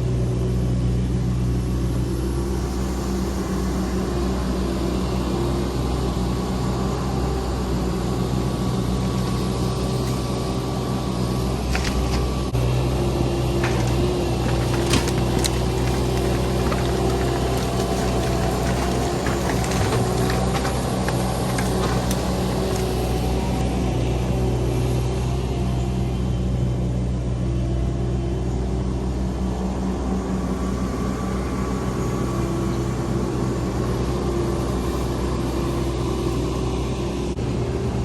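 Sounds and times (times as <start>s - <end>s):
truck engine drone: 0.0s - 38.0s.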